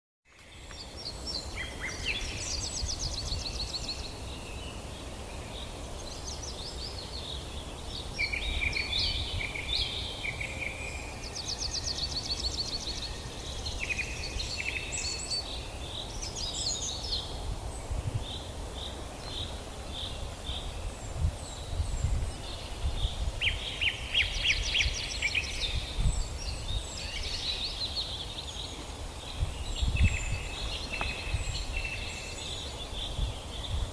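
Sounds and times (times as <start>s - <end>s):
songbirds singing: 0.3s - 33.9s.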